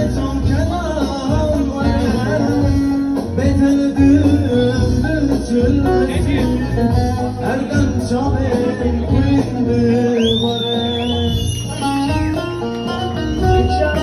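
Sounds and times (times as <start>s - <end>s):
plucked string instrument: 0.0s - 10.3s, 11.2s - 14.0s
bass line: 0.0s - 14.0s
live band music: 0.0s - 14.0s.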